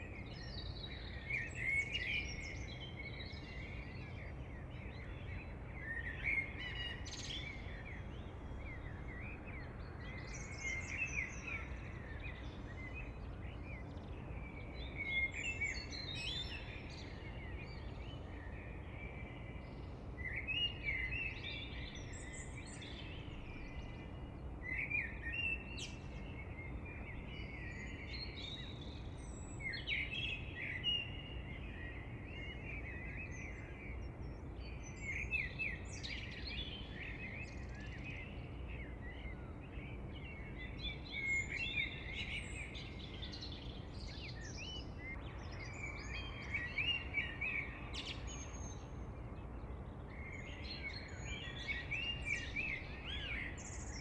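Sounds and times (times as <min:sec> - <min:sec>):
low background noise: 0:00.0 - 0:54.0
songbirds chirping: 0:00.0 - 0:54.0.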